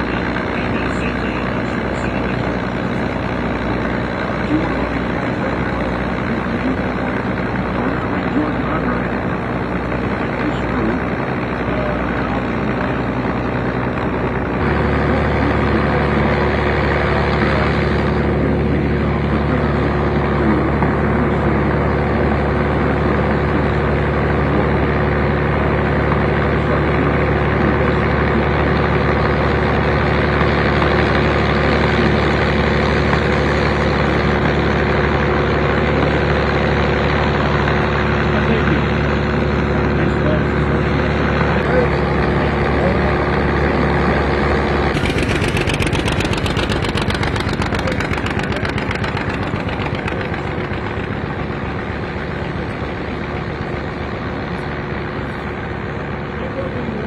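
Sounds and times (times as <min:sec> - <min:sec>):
engine humming steadily: 0:00.0 - 0:57.0.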